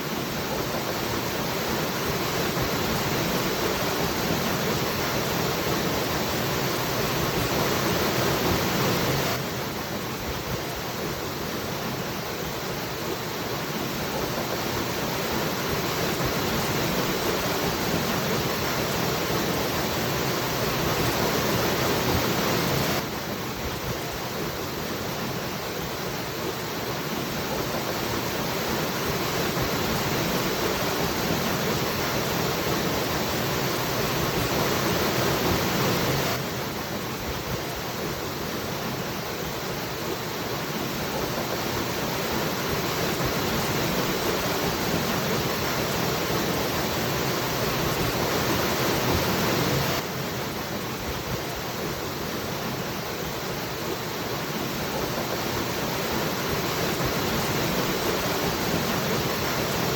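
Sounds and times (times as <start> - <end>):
waterfall rushing: 10.8 - 59.9.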